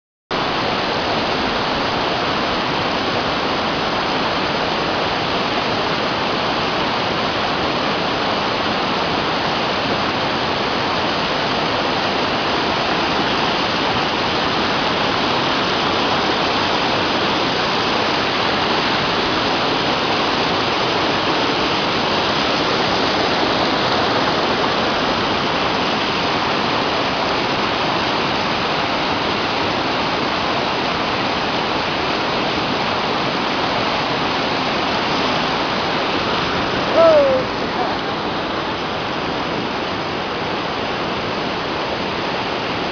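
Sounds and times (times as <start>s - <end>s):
waterfall rushing over boulders: 0.4s - 42.9s.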